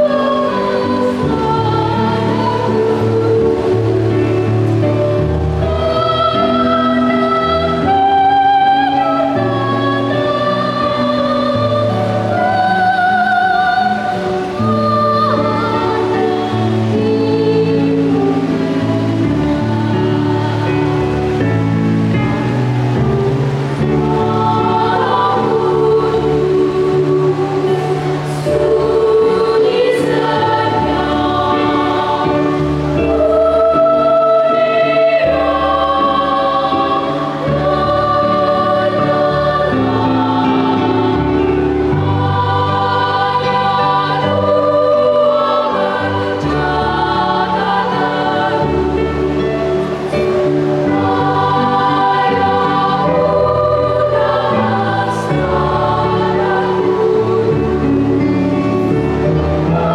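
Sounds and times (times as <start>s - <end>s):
children's choir singing a carol: 0.0s - 59.9s.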